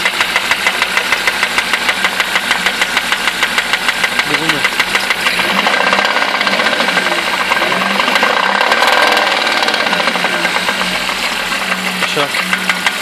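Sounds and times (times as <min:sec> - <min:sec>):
car engine running: 0:00.0 - 0:13.0
rapid rhythmic engine knock: 0:00.0 - 0:13.0.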